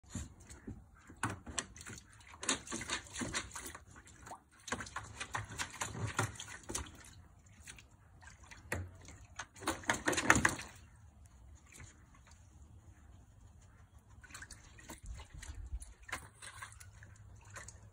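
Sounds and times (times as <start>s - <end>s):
dog splashing in water: 0.0s - 12.6s, 14.1s - 17.9s.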